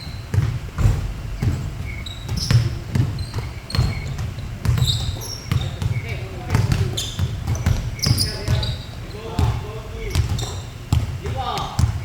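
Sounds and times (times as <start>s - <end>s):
basketballs bouncing on gym floor: 0.0s - 12.0s
shoe squeaks: 0.0s - 12.0s.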